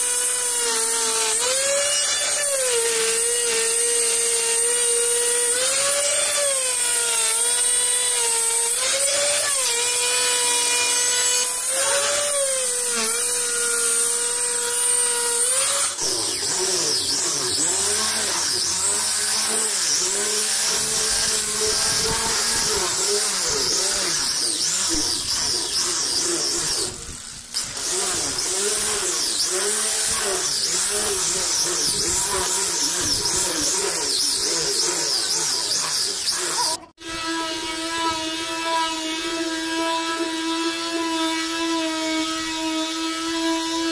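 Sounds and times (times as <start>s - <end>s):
angle grinder sanding wood: 0.0s - 43.9s
wood router whining: 0.0s - 43.9s.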